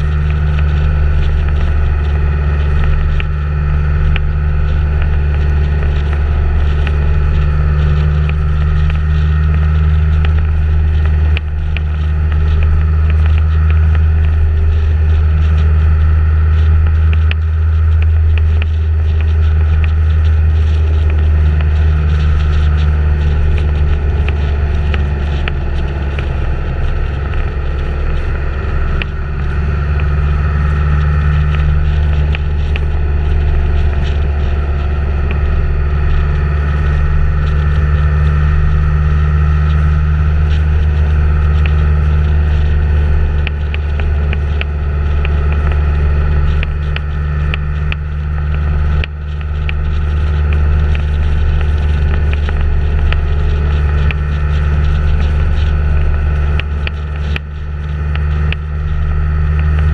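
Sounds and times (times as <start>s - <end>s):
vehicle engine running: 0.0s - 59.9s
wind and road noise: 0.0s - 59.9s.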